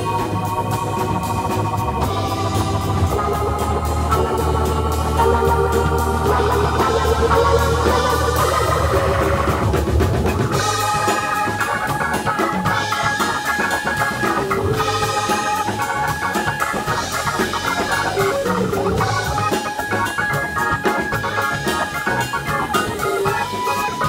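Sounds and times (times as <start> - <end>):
bass line: 0.0 - 24.0
drum kit beat: 0.0 - 24.0
organ chords: 0.0 - 24.0.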